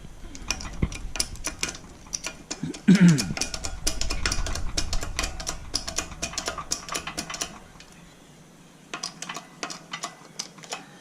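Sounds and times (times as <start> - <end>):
metal tools clicking on press: 0.4 - 8.0, 8.9 - 11.0.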